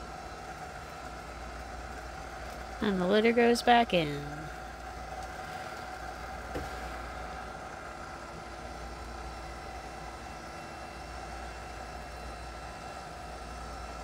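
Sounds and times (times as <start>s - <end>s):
motor hum with high whine: 0.0s - 14.0s.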